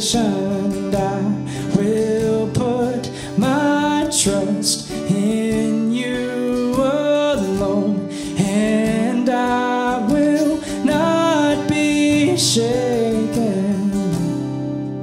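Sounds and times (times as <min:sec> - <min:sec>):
man and woman singing: 0:00.0 - 0:14.2
acoustic guitar: 0:00.0 - 0:15.0.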